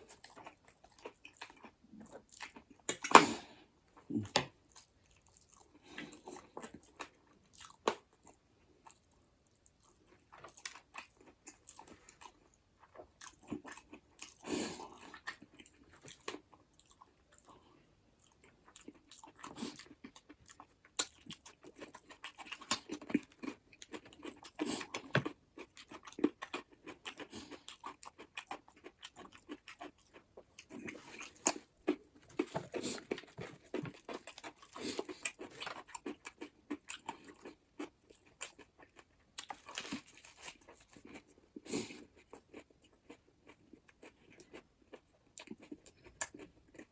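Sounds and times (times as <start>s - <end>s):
close chewing and biting: 0.0s - 46.9s.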